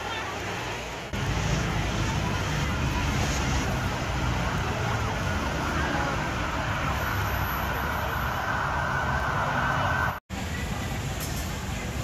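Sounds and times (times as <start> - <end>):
busy open-air market din: 0.0 - 12.0
low traffic rumble: 0.0 - 12.0.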